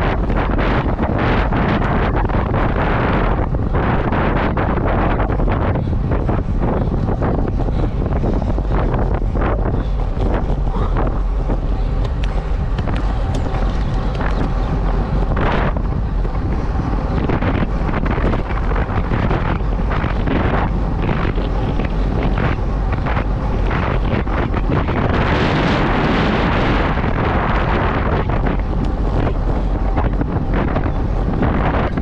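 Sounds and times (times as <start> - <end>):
wind noise on microphone: 0.0 - 32.0.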